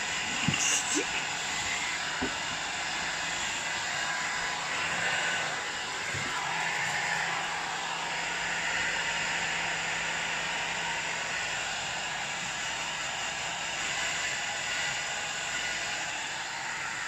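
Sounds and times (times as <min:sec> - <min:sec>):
hair dryer blowing air: 0:00.0 - 0:17.0.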